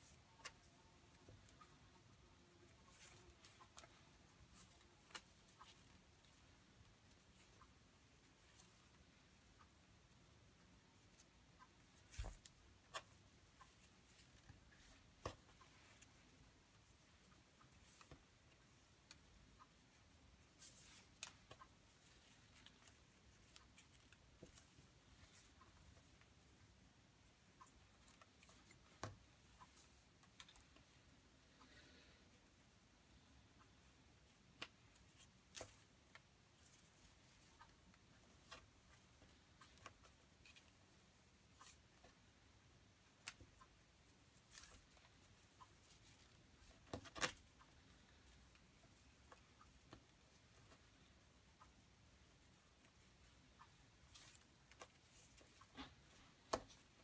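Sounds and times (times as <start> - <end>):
cord rustling and clicking: 0.0 - 10.2, 10.9 - 31.1, 34.2 - 57.0.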